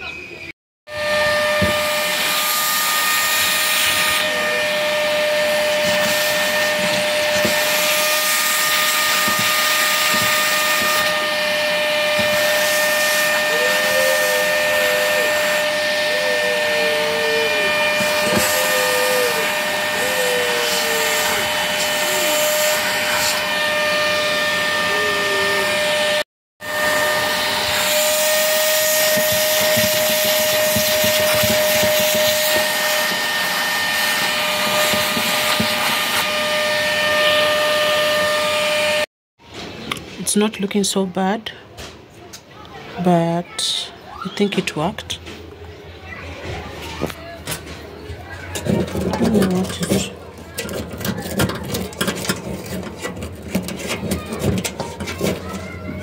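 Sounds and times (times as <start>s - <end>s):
vacuum cleaner running: 0.9s - 39.1s, 48.4s - 56.0s.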